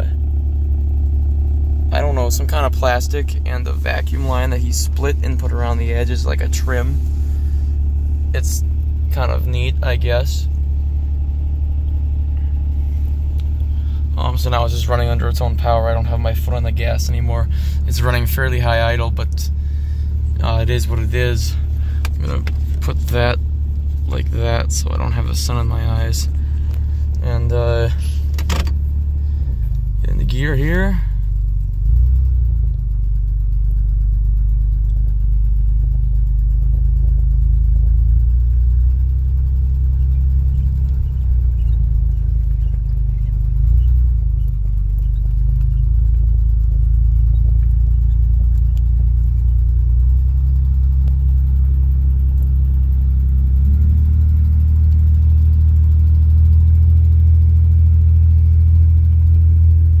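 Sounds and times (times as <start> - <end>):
car engine drone from inside cabin: 0.0 - 60.0.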